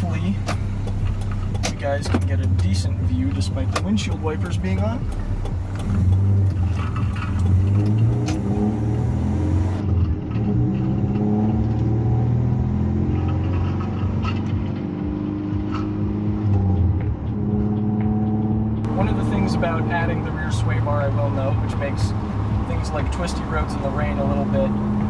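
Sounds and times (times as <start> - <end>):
truck engine from inside cab: 0.0 - 14.6, 16.4 - 25.0.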